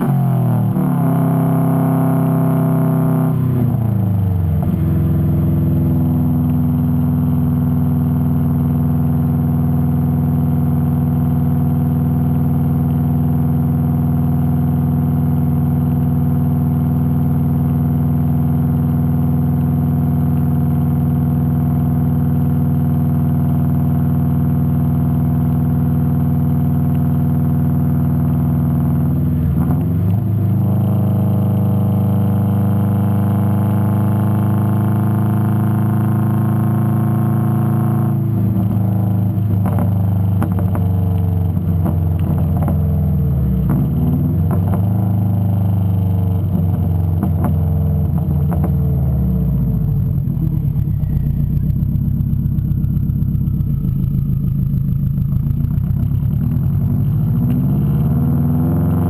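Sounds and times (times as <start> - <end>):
car engine exhaust drone: 0.0 - 59.0.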